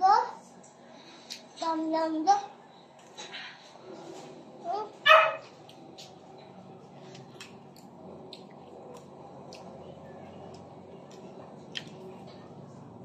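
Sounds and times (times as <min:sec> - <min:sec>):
low background hum: 0:00.0 - 0:13.0
people eating soft food: 0:00.0 - 0:13.0.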